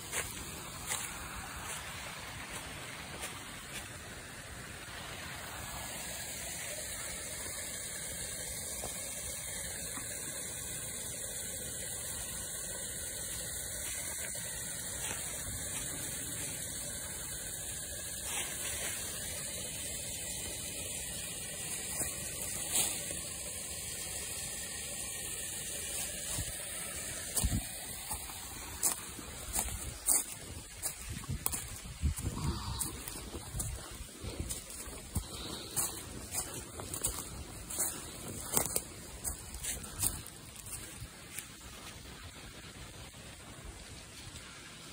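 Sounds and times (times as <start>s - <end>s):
water pouring and splashing: 0.0s - 43.5s.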